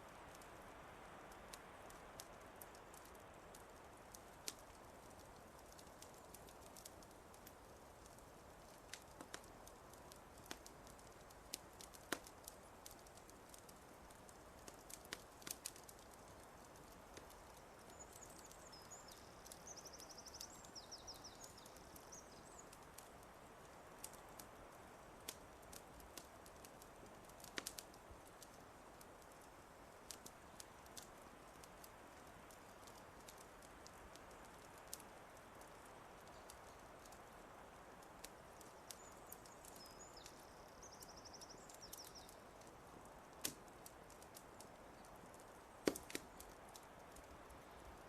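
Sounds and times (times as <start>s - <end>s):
low steady hiss: 0.0s - 48.0s
wood fire crackling: 0.0s - 48.0s
faint birdsong: 0.1s - 48.0s.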